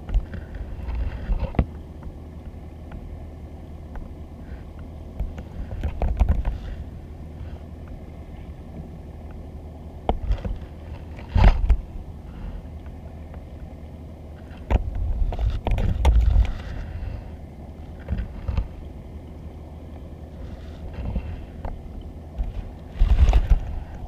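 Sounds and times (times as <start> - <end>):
underwater rumble of water: 0.0 - 24.0.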